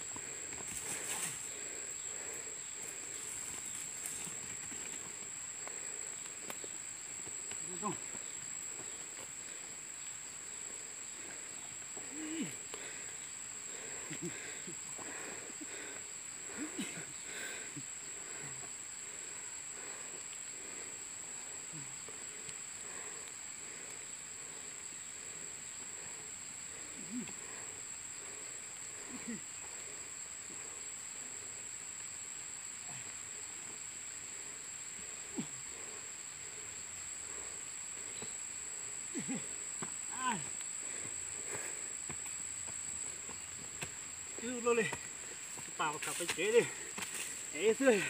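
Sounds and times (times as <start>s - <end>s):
high-pitched insect drone: 0.0s - 48.0s.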